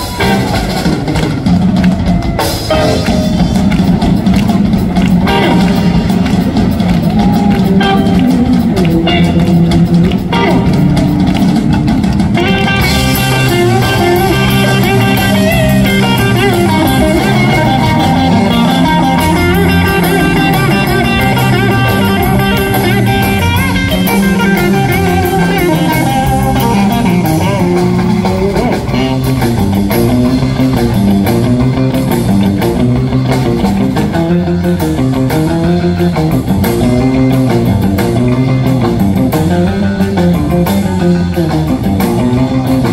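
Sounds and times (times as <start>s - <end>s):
bass guitar: 0.0s - 42.9s
drum kit: 0.0s - 42.9s
loud electric guitars: 0.0s - 42.9s
rock band playing: 0.0s - 42.9s.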